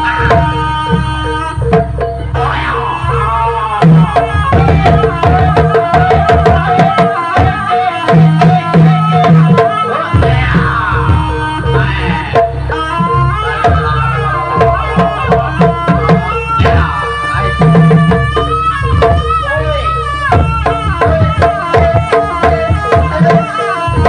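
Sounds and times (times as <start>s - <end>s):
hand drums beating fast rhythm: 0.0s - 24.0s
sliding high tone: 0.0s - 24.0s.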